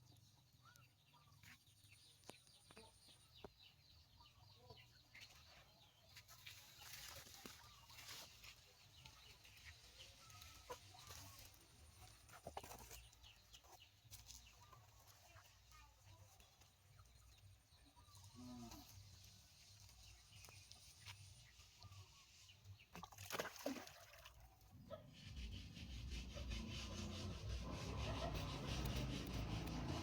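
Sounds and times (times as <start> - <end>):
animal chirps and clucks: 0.0 - 23.0, 24.4 - 30.0.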